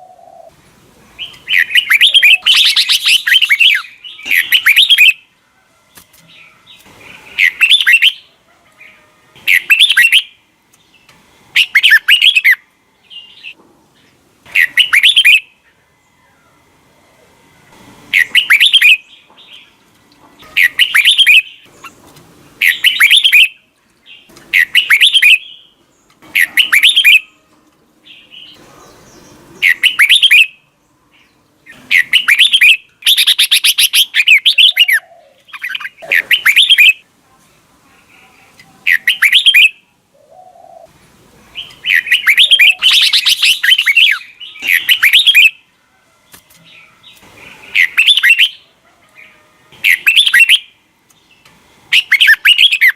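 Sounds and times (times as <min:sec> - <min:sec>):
bird singing warbling phrases: 0:01.2 - 0:05.3, 0:06.3 - 0:16.6, 0:18.1 - 0:19.8, 0:20.4 - 0:27.4, 0:28.0 - 0:37.1, 0:38.0 - 0:40.9, 0:41.5 - 0:45.7, 0:46.7 - 0:52.9.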